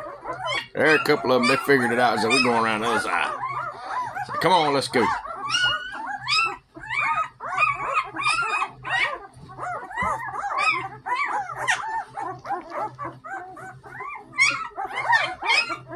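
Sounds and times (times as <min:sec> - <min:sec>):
puppies squealing and whimpering: 0:00.0 - 0:15.9.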